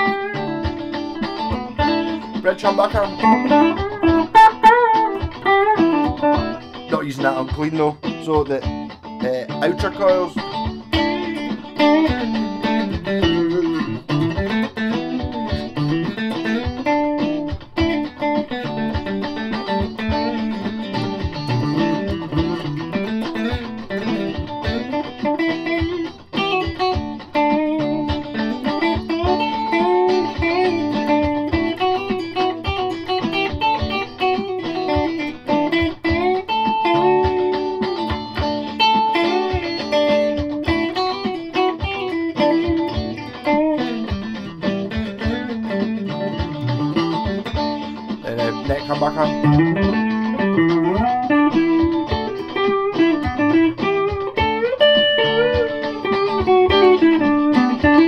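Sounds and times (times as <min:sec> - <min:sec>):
clean electric guitar playing: 0:00.0 - 0:58.0.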